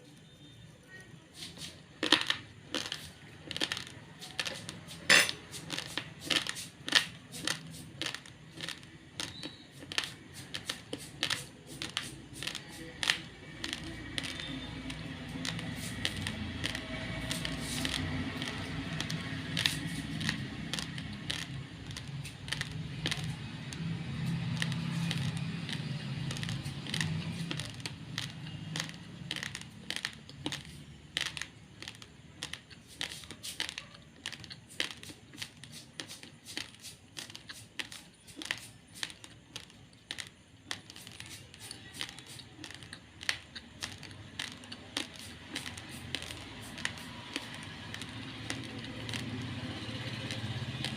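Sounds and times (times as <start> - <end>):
rice grains being chewed: 0.0 - 50.9.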